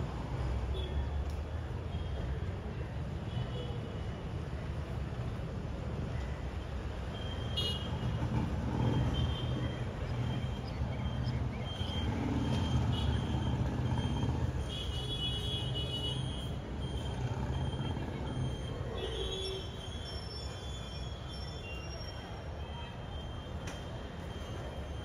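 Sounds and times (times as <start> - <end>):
city road traffic rumble: 0.0 - 25.0.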